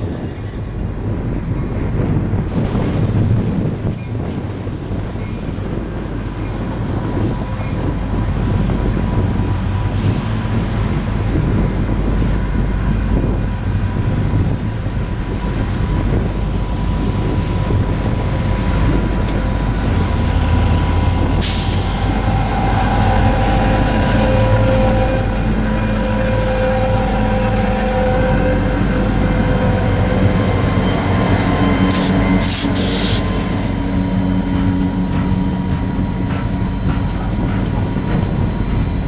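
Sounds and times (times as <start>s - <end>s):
diesel locomotive engine hum: 0.0s - 39.0s
freight train cars rumbling: 0.0s - 39.0s
wheel squeals: 5.2s - 39.0s.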